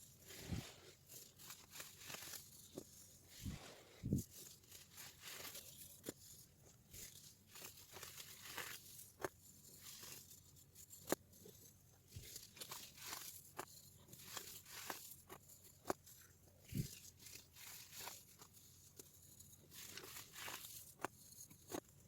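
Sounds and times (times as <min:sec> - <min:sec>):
baking soda crunching and crackling: 0:00.0 - 0:22.0.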